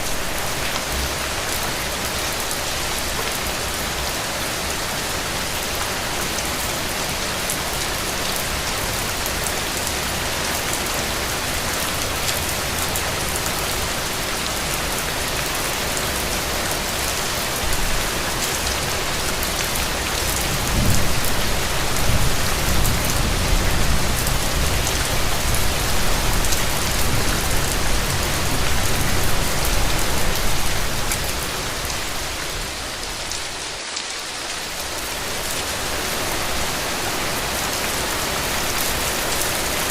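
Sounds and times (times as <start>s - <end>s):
rain pattering on hard surfaces: 0.1s - 39.9s.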